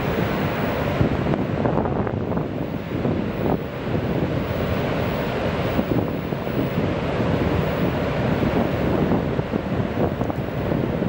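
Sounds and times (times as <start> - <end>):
ocean surf: 0.0 - 11.0
wind rumbling on microphone: 0.0 - 11.0.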